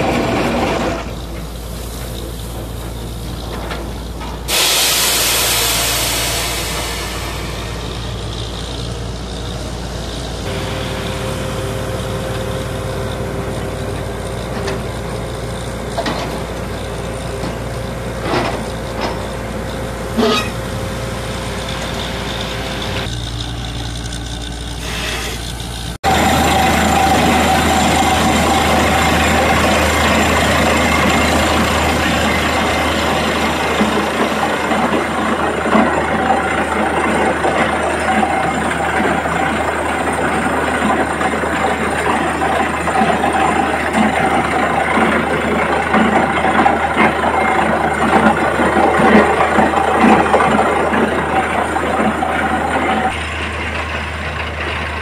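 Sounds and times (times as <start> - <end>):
drilling rig running: 0.0 - 55.0.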